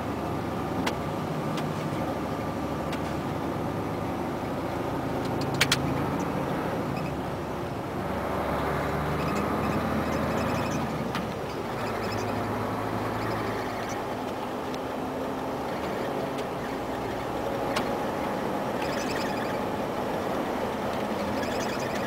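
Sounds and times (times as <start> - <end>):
road and tyre noise: 0.0 - 22.0.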